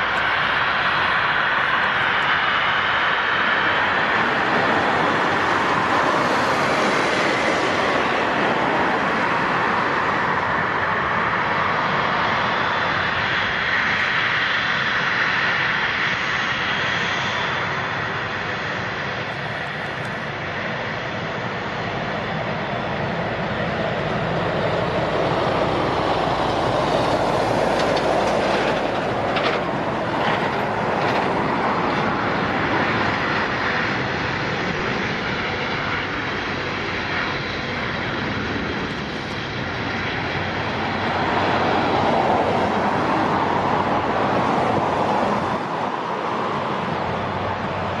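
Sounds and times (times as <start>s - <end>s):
jet engines running: 0.0s - 48.0s.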